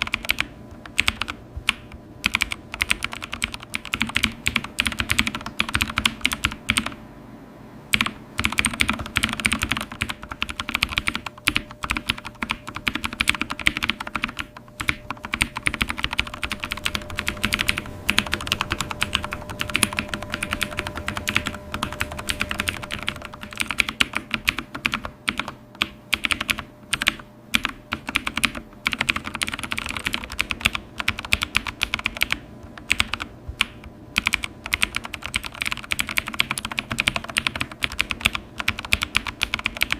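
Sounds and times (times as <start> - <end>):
fast keyboard typing: 0.0 - 7.0, 7.9 - 39.9
faint hum: 0.0 - 39.9.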